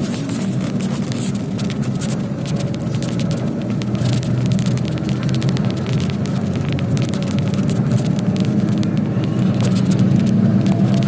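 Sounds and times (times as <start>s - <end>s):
cab rattles and clicks: 0.0s - 11.0s
truck engine drone: 0.0s - 11.0s.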